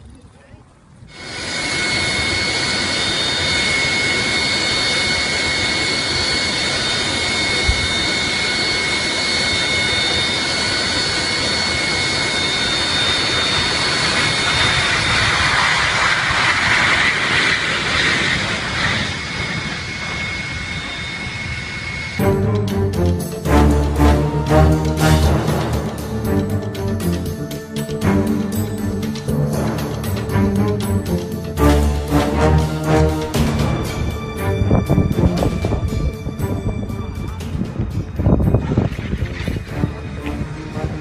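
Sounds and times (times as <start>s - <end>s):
jet engines running: 0.9s - 41.0s.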